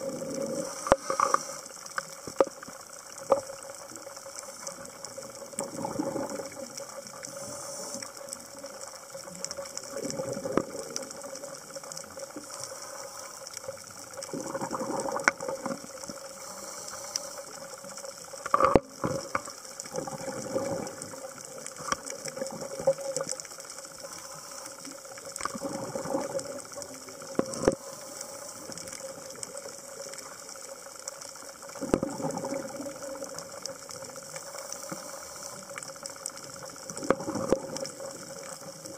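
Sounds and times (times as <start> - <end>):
exhaled bubbles underwater: 0.0 - 38.9.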